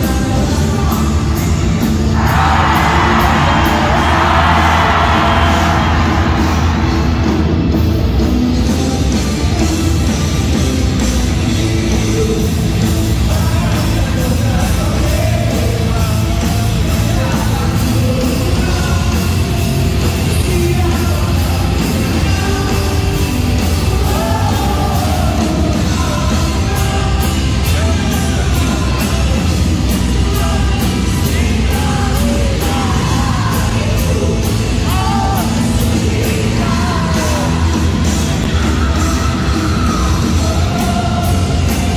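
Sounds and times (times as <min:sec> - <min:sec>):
man singing and yelling: 0:00.0 - 0:06.8, 0:11.0 - 0:41.9
distorted electric guitars: 0:00.0 - 0:41.9
live heavy rock band: 0:00.0 - 0:41.9.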